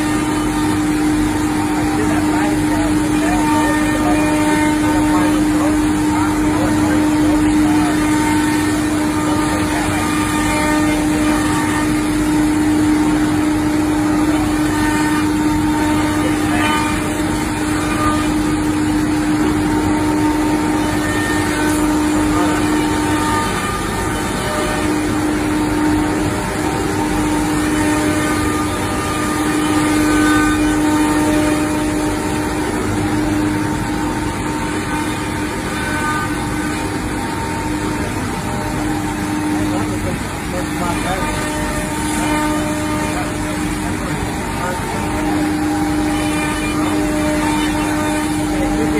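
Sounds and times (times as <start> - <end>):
cnc router spindle tone: 0.0 - 48.9
dense machine noise: 0.0 - 48.9.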